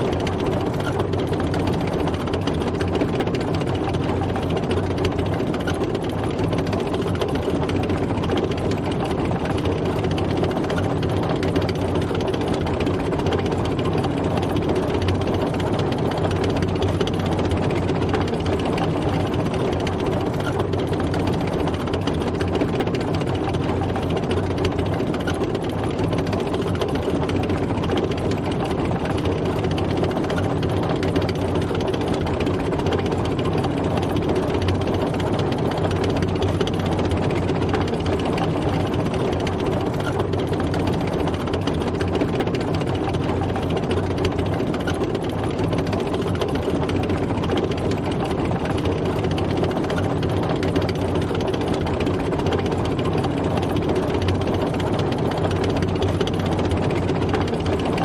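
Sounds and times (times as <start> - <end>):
tank engine drone: 0.0 - 58.0.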